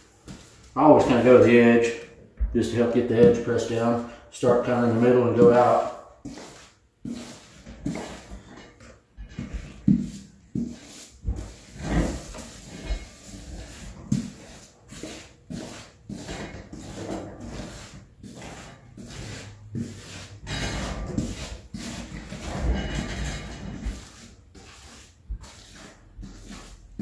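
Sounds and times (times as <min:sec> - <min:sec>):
brush scrubbing on wood: 0:00.0 - 0:02.0, 0:02.6 - 0:08.6, 0:09.4 - 0:27.0.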